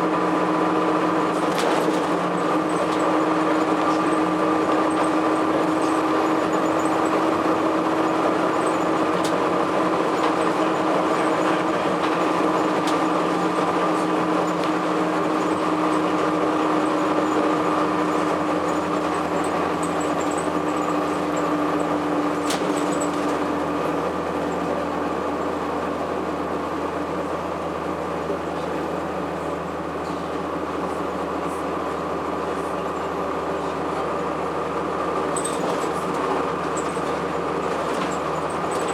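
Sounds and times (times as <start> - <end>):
bus diesel engine whine: 0.0 - 38.9.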